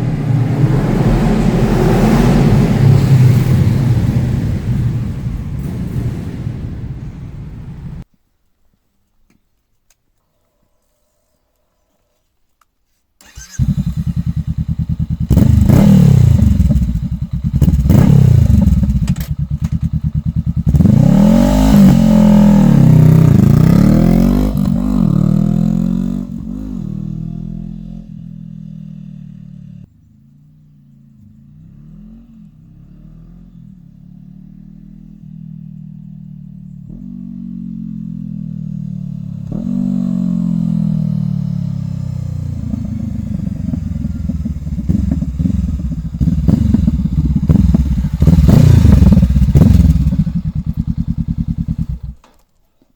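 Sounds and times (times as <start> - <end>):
motorcycle revving and accelerating: 0.0 - 8.0, 13.2 - 52.2.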